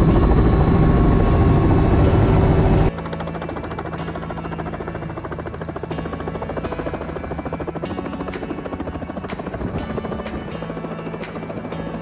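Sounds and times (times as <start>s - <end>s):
background music: 0.0s - 12.0s
helicopter hovering: 0.0s - 12.0s.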